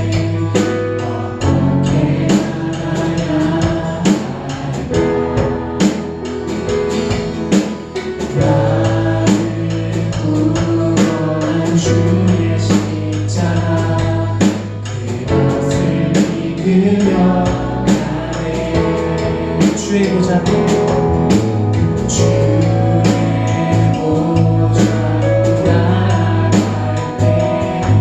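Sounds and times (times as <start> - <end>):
drum kit beat: 0.0 - 28.0
live band playing worship song: 0.0 - 28.0.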